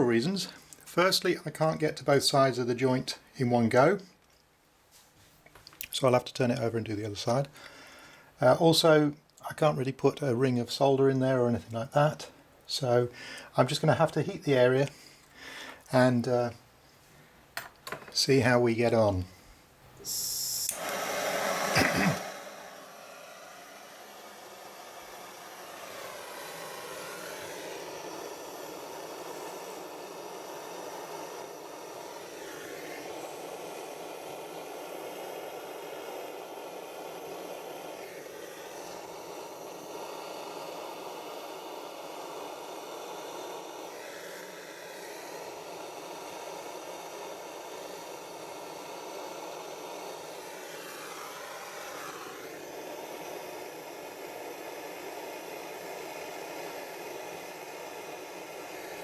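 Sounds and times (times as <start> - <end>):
blow lamp flame burning: 3.7 - 59.0.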